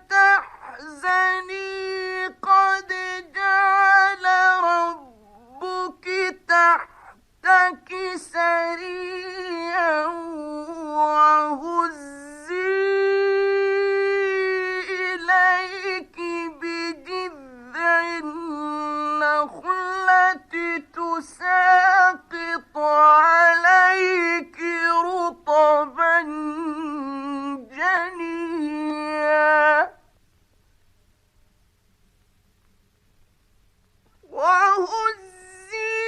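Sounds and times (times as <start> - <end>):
man chanting melodically: 0.0 - 30.0, 34.2 - 36.0.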